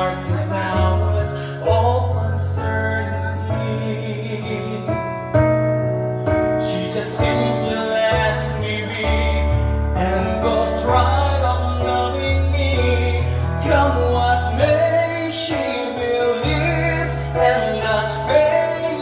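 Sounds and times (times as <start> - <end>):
bass line: 0.0 - 19.0
piano and keyboard chords: 0.0 - 19.0.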